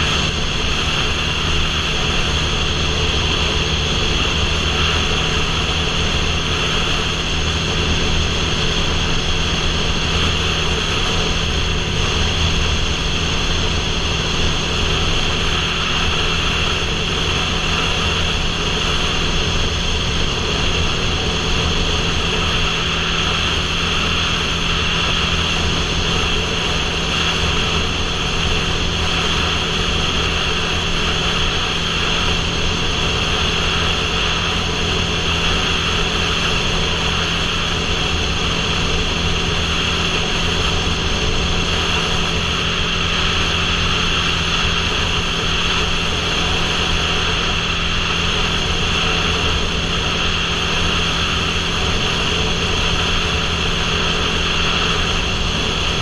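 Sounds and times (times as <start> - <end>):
motorcycle engine drone: 0.0 - 56.0.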